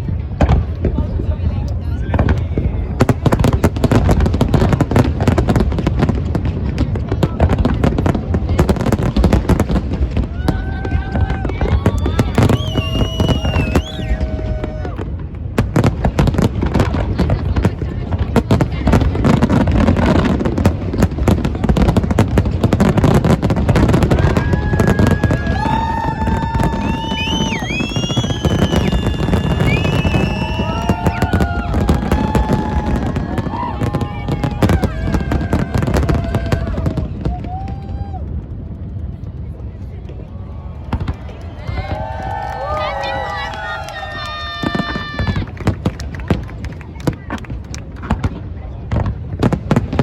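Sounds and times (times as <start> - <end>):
fireworks cracks and booms: 0.0 - 50.0.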